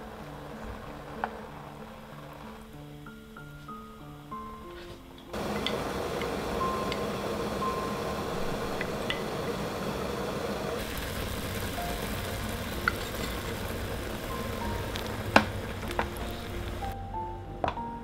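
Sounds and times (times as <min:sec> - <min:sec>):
sauce boiling in a pot: 0:00.0 - 0:03.3, 0:05.4 - 0:17.0
soft background music: 0:00.0 - 0:09.8, 0:11.3 - 0:18.0.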